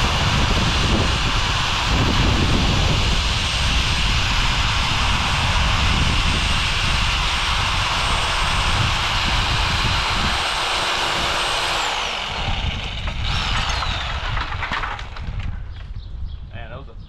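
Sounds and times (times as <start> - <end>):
reciprocating saw cutting branch: 0.0 - 15.0.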